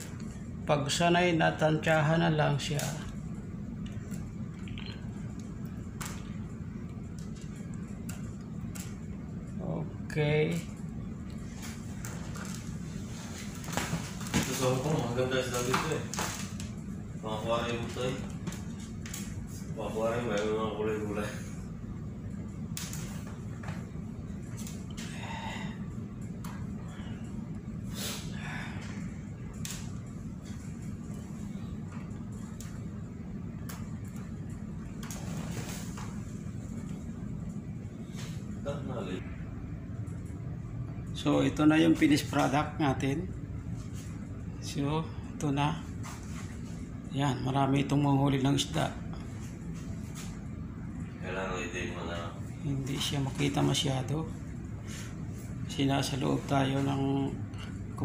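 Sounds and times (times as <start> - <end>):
low machinery hum: 0.0 - 58.0.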